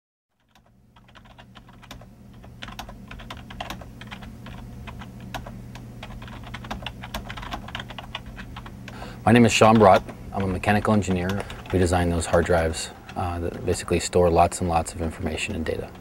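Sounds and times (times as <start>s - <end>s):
fast typing on keyboard: 0.3s - 8.7s, 9.5s - 14.0s
steady low hum: 0.4s - 16.0s.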